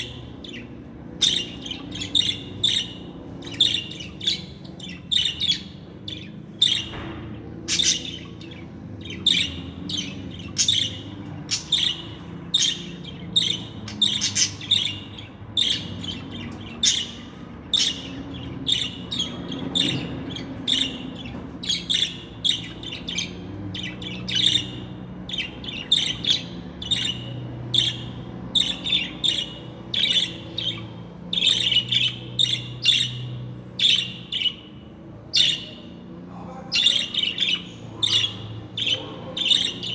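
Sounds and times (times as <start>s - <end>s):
budgerigar chirping and squawking: 0.0s - 36.0s, 36.7s - 39.9s.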